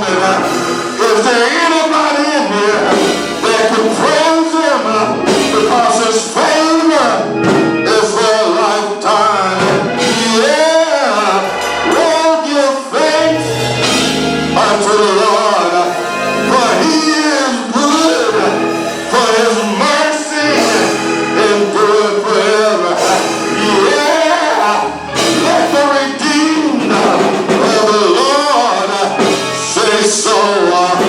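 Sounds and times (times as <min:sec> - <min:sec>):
gospel singers: 0:00.0 - 0:31.0
instrumental accompaniment: 0:00.0 - 0:31.0.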